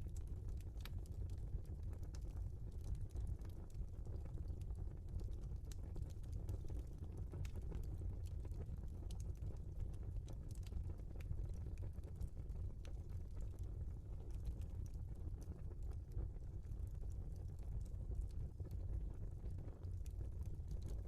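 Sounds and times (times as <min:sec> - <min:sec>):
low steady fire rumble: 0:00.0 - 0:21.0
wood fire crackling and popping: 0:00.0 - 0:21.0.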